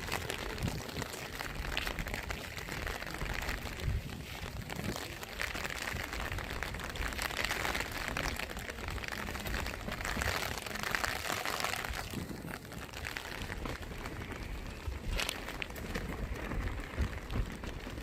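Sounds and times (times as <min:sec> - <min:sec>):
rain falling: 0:00.0 - 0:18.0
raindrops ticking: 0:00.0 - 0:18.0.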